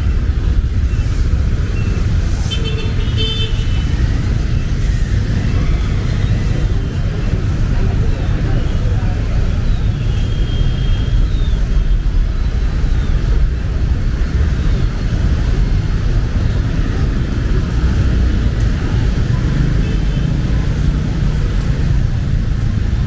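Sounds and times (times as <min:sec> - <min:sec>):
steady rain: 0:00.0 - 0:23.0
traffic engine rumble: 0:00.0 - 0:23.0.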